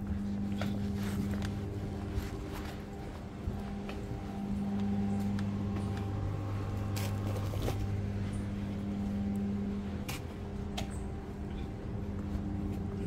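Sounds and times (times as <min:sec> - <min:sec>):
footsteps on concrete: 0:00.0 - 0:13.0
machine hum: 0:00.0 - 0:13.0.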